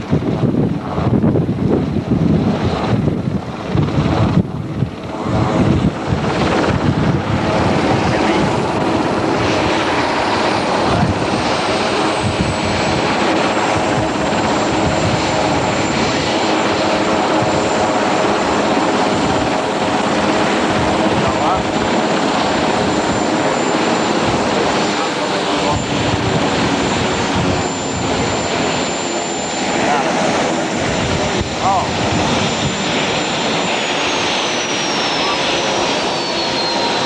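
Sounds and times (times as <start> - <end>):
helicopter rotor running: 0.0 - 37.0
high turbine whine: 0.0 - 37.0
wind buffeting microphone: 0.0 - 37.0.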